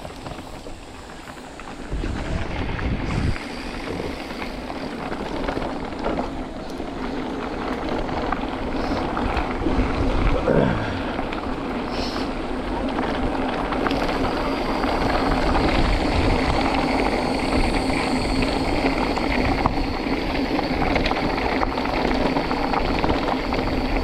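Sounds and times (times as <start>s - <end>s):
wind buffeting microphone: 0.0s - 10.8s, 11.4s - 24.0s.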